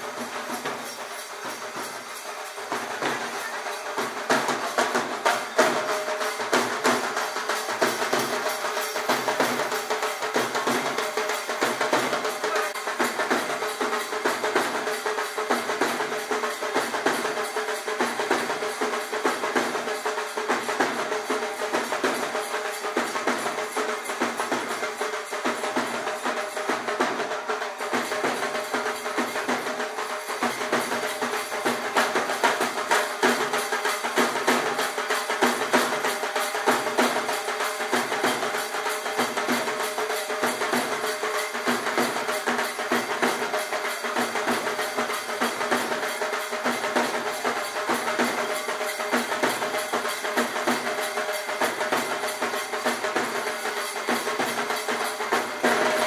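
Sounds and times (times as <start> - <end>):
instrumental music with drum beat: 0.0 - 56.0.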